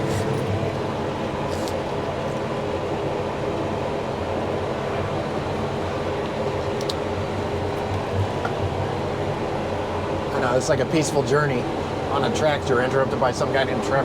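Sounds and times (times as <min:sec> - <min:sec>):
diesel engine drone: 0:00.0 - 0:14.0.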